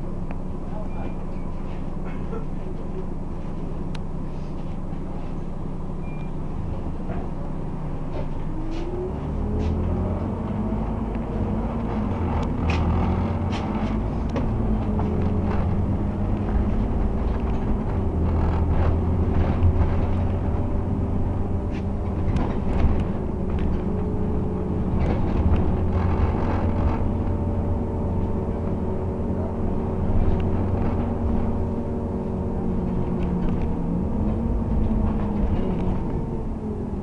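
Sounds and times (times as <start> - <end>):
bus engine and drivetrain hum: 0.0 - 37.0.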